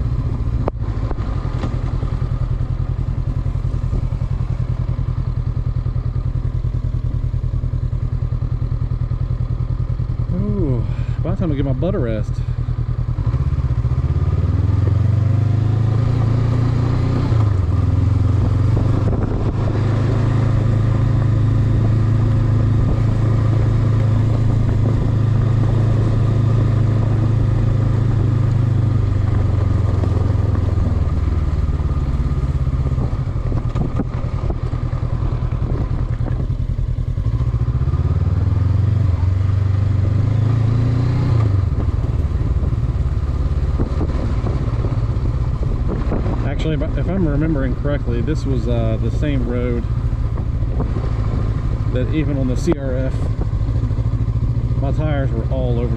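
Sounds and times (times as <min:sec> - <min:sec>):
motorcycle engine while riding: 0:00.0 - 0:55.9.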